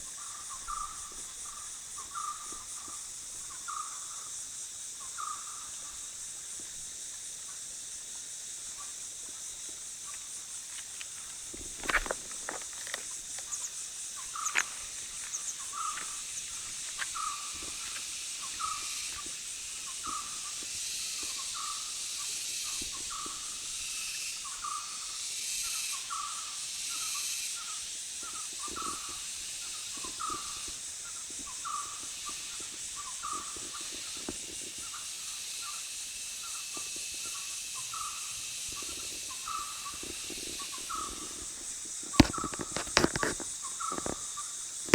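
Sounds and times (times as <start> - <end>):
steady high hiss: 0.0 - 44.9.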